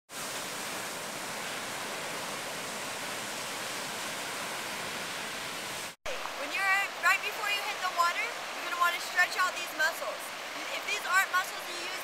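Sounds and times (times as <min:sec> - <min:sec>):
ocean surf hissing: 0:00.1 - 0:12.0.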